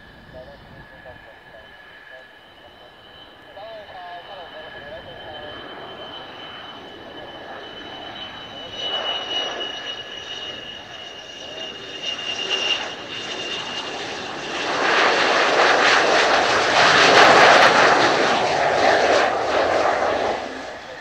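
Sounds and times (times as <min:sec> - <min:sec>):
jet engine whine: 0:00.0 - 0:21.0
jet rushing past: 0:00.0 - 0:21.0.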